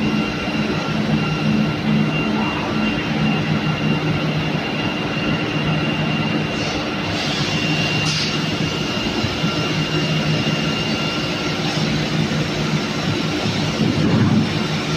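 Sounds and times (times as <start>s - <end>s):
machine drone with high whine: 0.0s - 14.9s.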